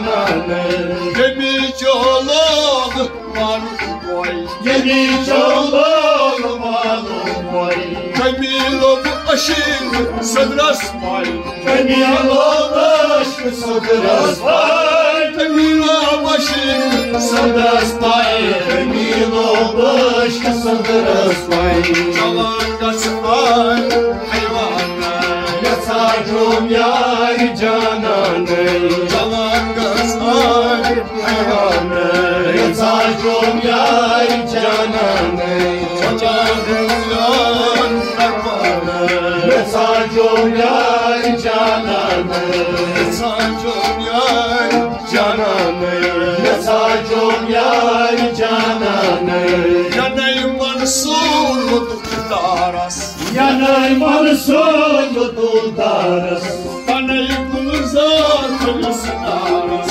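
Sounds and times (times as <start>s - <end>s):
hand drum rhythm: 0.0s - 59.9s
person singing a melody: 0.0s - 59.9s.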